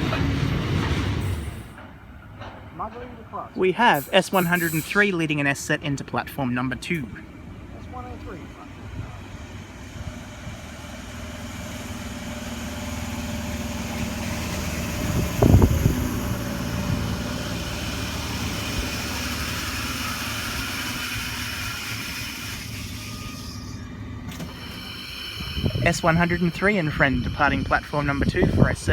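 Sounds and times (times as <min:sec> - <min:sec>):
electric train humming and whining: 0:00.0 - 0:28.9.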